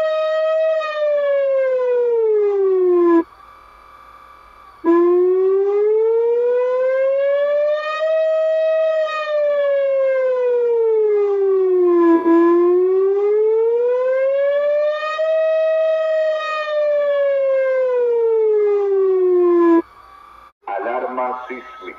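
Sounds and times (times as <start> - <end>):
emergency siren wailing: 0.0 - 3.7, 4.5 - 20.0.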